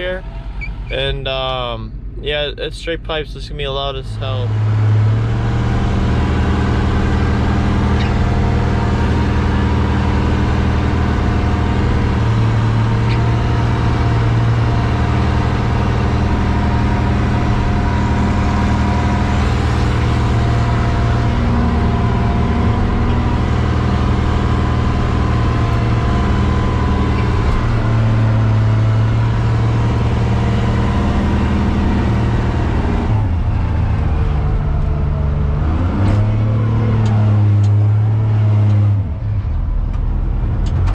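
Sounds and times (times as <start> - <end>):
loud diesel engine running: 0.0 - 37.4.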